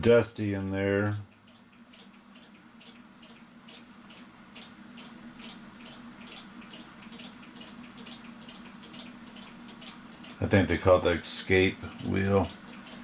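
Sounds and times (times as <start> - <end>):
mechanical clock ticking: 0.0 - 13.0
steady low hum: 0.0 - 13.0.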